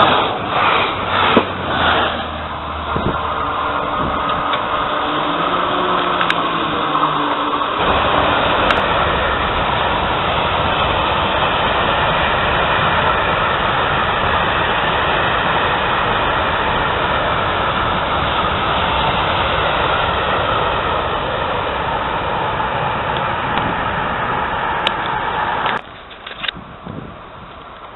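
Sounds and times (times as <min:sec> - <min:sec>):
faint steady whine: 0:00.0 - 0:27.9
train rolling past: 0:00.0 - 0:27.9.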